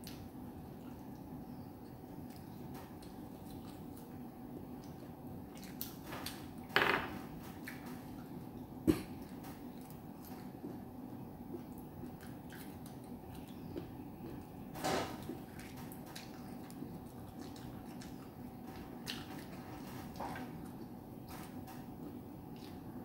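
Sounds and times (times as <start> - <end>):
fruit peeling and eating sounds: 0.0 - 6.7, 7.4 - 23.0.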